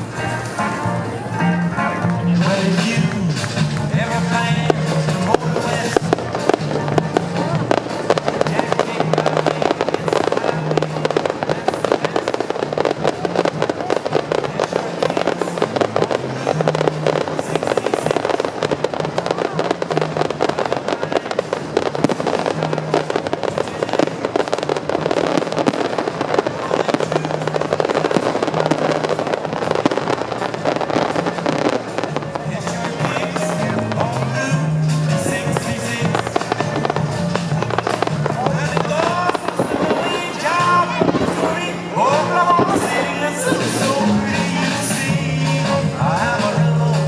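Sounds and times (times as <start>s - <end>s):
fireworks crackling and banging: 0.0s - 47.0s
music playing: 0.0s - 47.0s.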